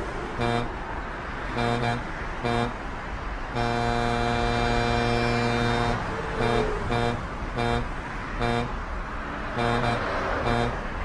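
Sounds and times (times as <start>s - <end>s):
vehicle horn honking: 0.0s - 0.8s, 1.4s - 2.9s, 3.5s - 11.0s
traffic noise: 0.0s - 11.0s.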